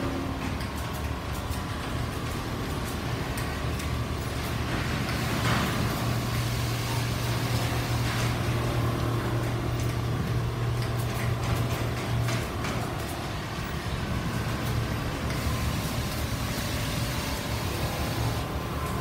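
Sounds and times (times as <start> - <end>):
quilting machines running: 0.0 - 19.0.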